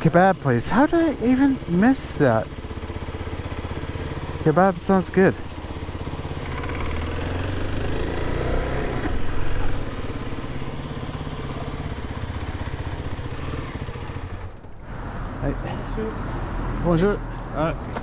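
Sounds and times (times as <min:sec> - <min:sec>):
single-cylinder engine idling: 0:00.0 - 0:15.1.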